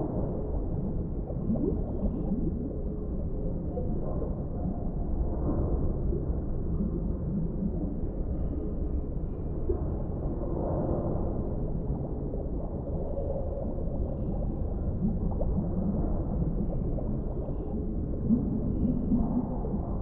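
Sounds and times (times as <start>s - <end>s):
muffled underwater rumble: 0.0s - 20.0s.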